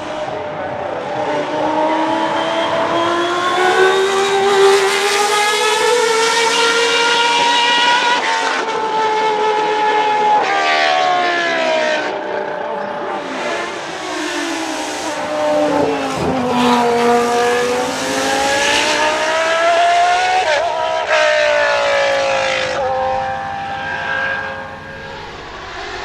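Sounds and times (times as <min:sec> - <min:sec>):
racing car engine revving past: 0:00.0 - 0:26.0.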